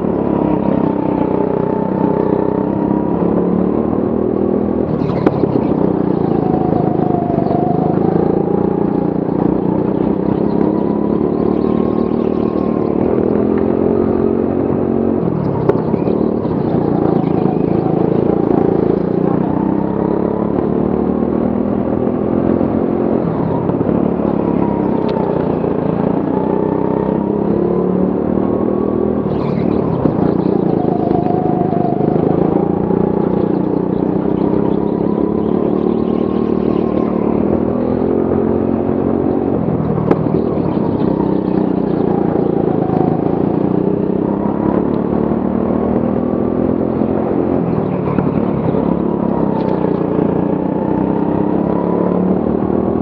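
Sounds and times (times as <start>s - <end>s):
go-kart engine running hard: 0.0s - 53.0s.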